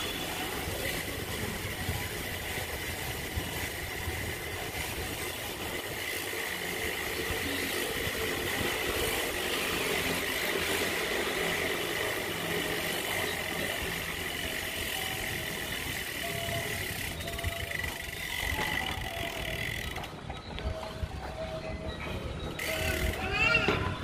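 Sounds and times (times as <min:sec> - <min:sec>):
low rumble of vehicle engines: 0:00.0 - 0:24.0.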